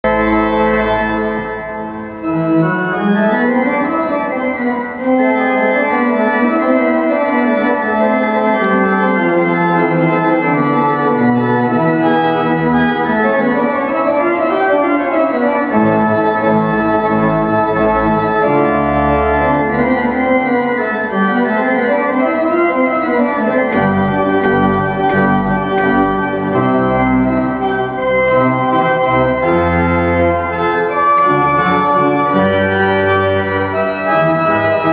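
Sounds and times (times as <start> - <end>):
deep organ pedal notes: 0.0 - 34.9
pipe organ chords: 0.0 - 34.9.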